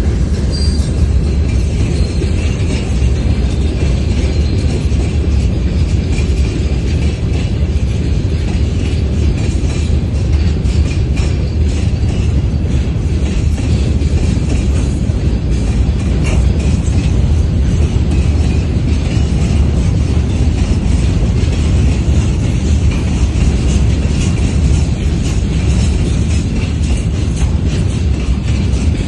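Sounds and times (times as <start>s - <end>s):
freight train wheels rumbling: 0.0s - 29.0s
wheels clicking over rail joints: 0.0s - 29.0s.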